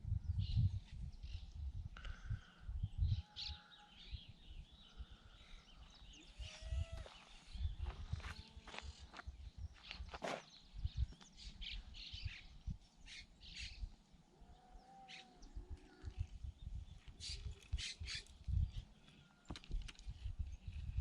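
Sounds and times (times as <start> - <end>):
birds chirping: 1.2 - 19.6.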